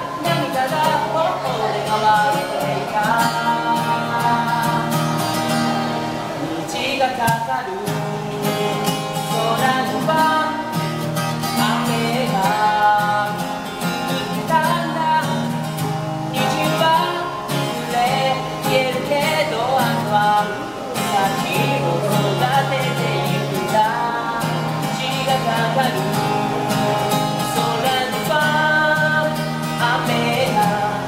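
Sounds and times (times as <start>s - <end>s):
acoustic guitar chords: 0.0s - 31.0s
man singing: 0.0s - 31.0s.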